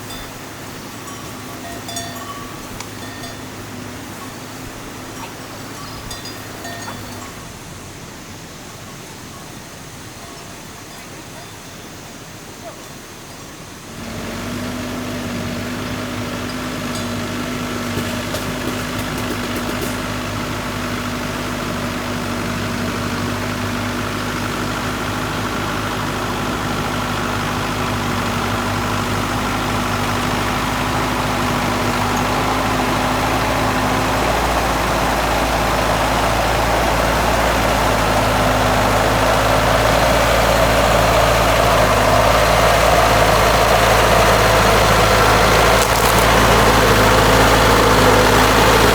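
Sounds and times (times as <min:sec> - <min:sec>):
small engine humming: 0:00.0 - 0:48.9.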